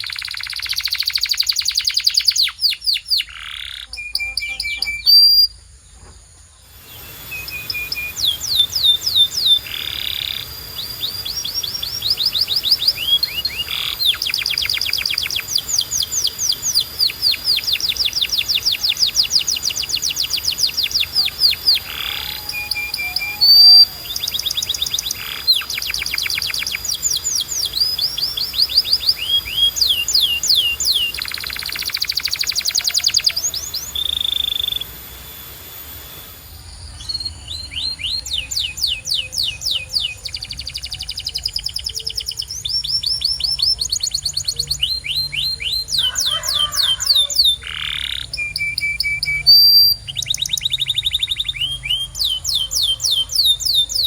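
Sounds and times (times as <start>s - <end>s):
canary singing trills: 0.0s - 5.7s, 6.6s - 54.0s.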